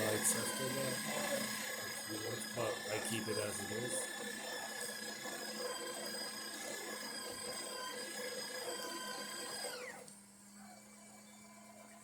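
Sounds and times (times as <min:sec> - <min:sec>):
espresso machine motor whine: 0:00.0 - 0:12.0.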